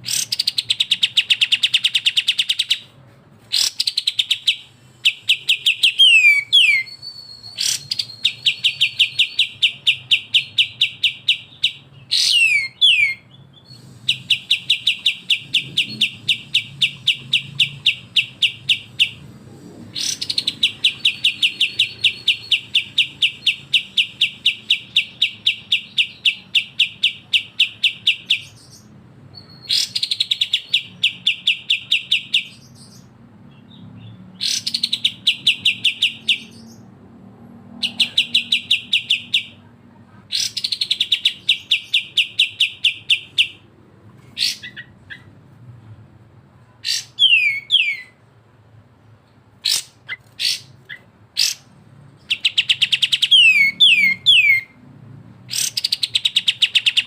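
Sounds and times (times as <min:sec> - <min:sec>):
birds singing rapid trills: 0:00.0 - 0:02.9, 0:03.5 - 0:37.0, 0:37.6 - 0:39.6, 0:40.3 - 0:43.7, 0:44.3 - 0:45.4, 0:46.8 - 0:48.2, 0:49.6 - 0:54.8, 0:55.5 - 0:57.0.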